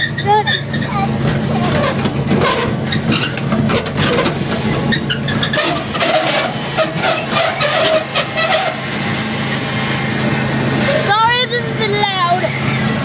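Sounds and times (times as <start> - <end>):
riding lawn mower engine: 0.0 - 13.0.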